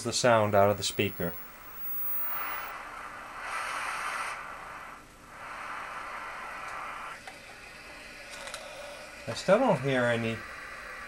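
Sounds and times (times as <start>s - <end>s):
tv speaker static hiss: 0.0s - 11.0s.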